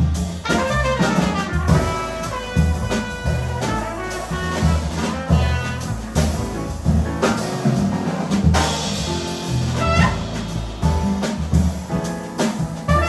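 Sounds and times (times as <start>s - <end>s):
drum kit strikes: 0.0s - 13.0s
live jazz quartet: 0.0s - 13.0s.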